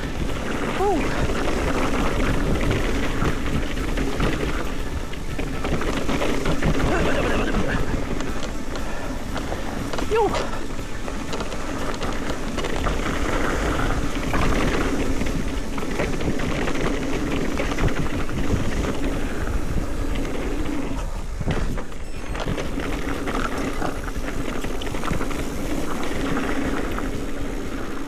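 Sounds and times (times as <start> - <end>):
bike tyre and rattle noise: 0.0 - 28.0
wind on microphone: 0.0 - 28.0.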